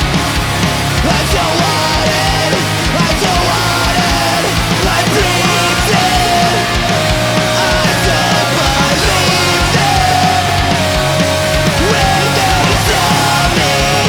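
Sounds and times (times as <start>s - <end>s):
punk rock band playing: 0.0s - 14.0s.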